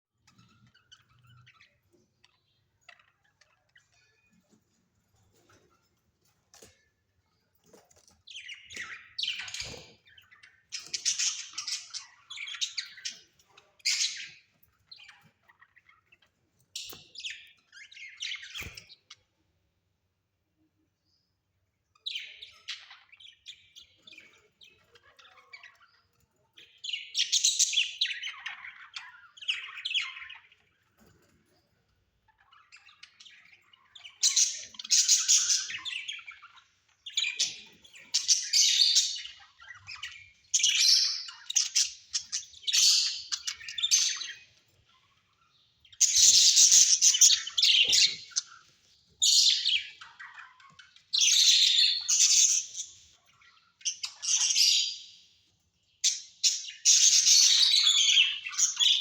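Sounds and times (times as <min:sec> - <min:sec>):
parrots chirping and squawking: 0:00.2 - 0:19.6, 0:21.7 - 0:59.0.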